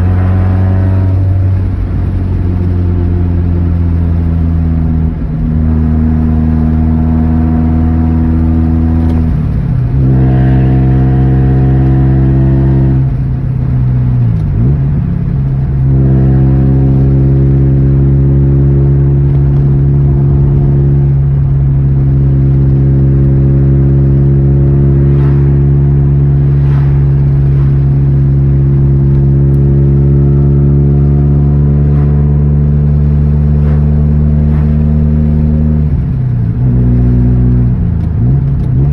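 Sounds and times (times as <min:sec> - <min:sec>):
four-cylinder car engine running: 0:00.0 - 0:38.9.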